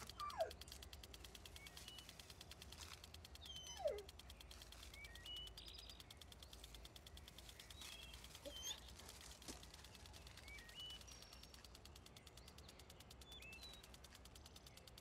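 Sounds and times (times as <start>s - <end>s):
birds chirping: 0.0s - 15.0s
fast even ticking: 0.0s - 15.0s.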